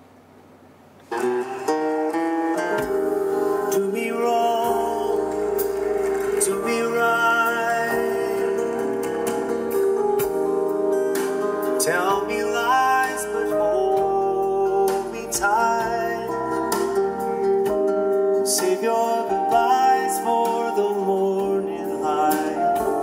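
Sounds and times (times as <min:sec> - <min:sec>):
song with singing voice: 0:01.1 - 0:23.0.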